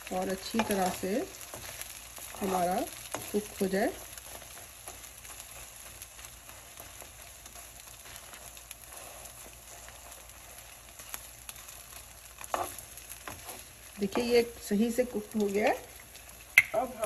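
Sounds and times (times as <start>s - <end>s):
egg sizzling in a pan: 0.0s - 17.0s.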